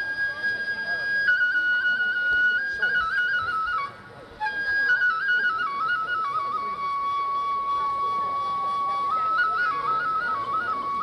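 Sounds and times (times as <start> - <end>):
bamboo flute melody: 0.0 - 11.0.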